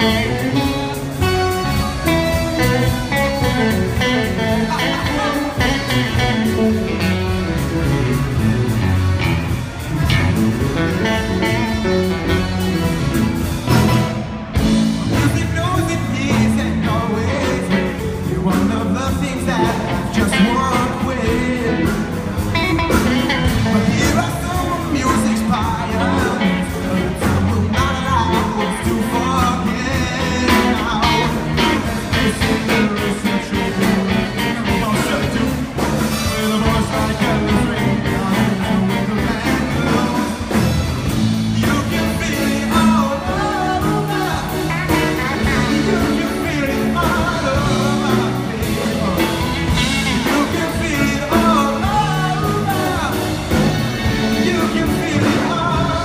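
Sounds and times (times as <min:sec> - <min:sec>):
lead singer: 0:00.0 - 0:56.0
live rock band: 0:00.0 - 0:56.0.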